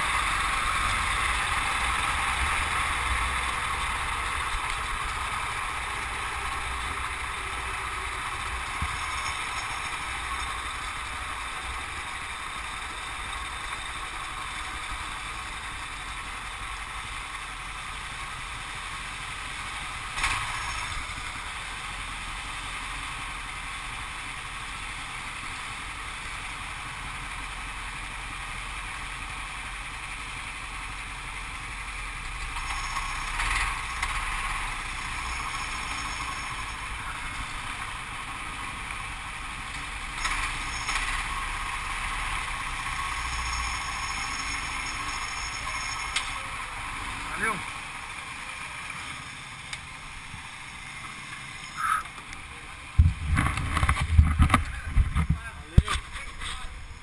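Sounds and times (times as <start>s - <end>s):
vehicle noise hiss and rumble: 0.0s - 57.0s.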